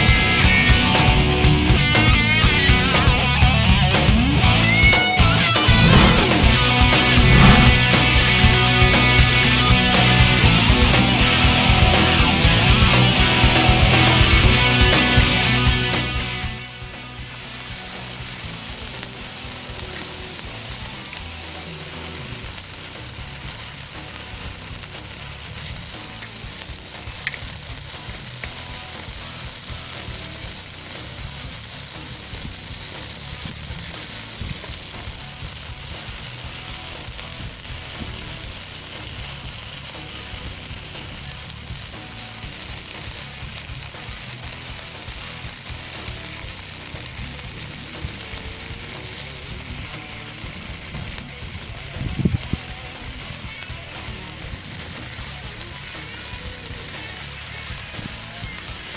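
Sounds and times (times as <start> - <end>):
firework crack: 0.0 - 58.9
fountain firework hissing: 0.0 - 58.9.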